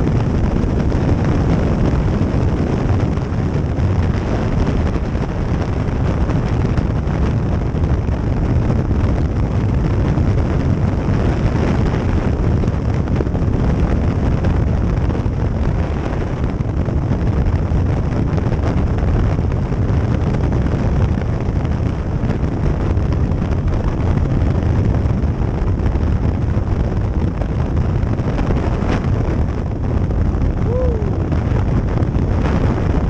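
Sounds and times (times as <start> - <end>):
motorcycle engine and tyre drone: 0.0 - 33.0
wind buffeting microphone: 0.0 - 33.0.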